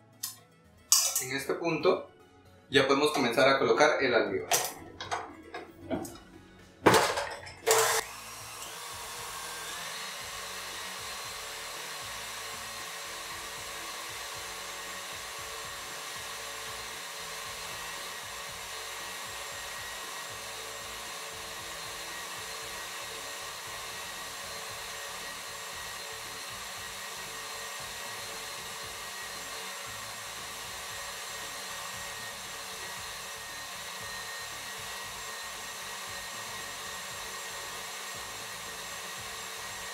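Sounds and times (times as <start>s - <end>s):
stand mixer motor whirring: 6.9s - 39.9s.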